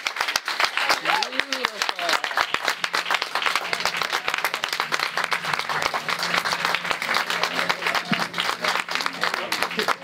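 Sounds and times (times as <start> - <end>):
congregation applauding: 0.0 - 10.0.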